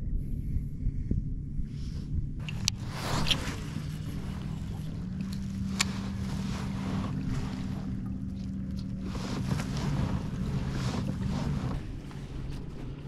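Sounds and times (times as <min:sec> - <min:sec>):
steady low hum: 0:00.0 - 0:13.0
wind on microphone: 0:00.0 - 0:13.0.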